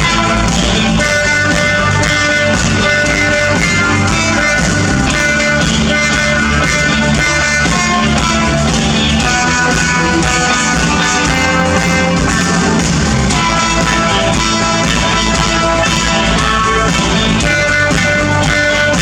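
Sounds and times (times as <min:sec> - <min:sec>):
live instrumental rock music: 0:00.0 - 0:19.0.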